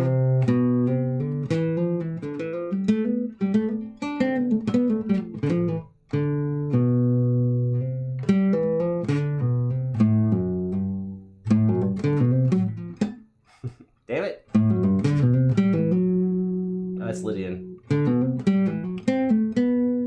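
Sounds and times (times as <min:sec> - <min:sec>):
clean guitar playing: 0:00.0 - 0:13.8, 0:14.4 - 0:20.0.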